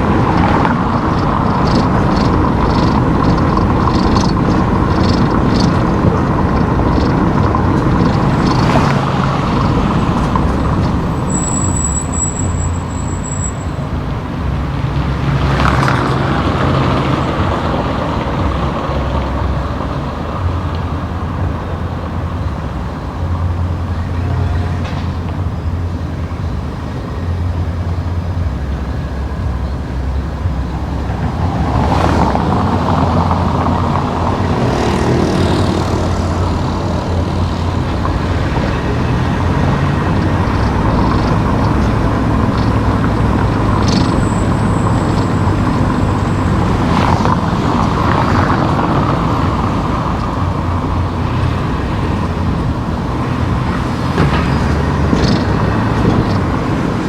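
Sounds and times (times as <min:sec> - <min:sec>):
car engine and tyre drone: 0:00.0 - 0:57.0
vehicles whooshing past: 0:00.0 - 0:57.0.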